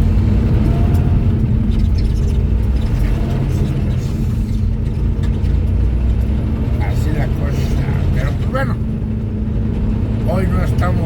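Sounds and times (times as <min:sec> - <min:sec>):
vehicle engine and tyre rumble: 0:00.0 - 0:11.0.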